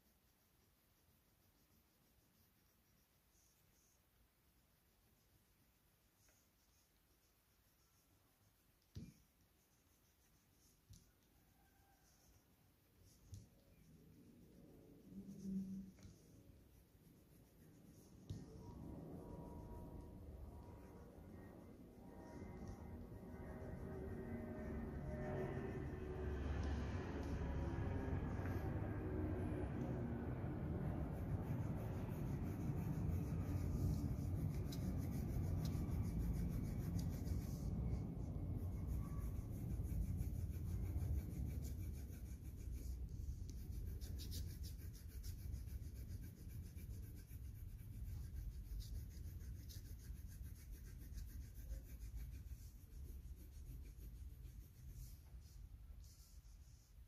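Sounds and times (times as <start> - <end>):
pencil scratching on paper: 0.0 - 57.0.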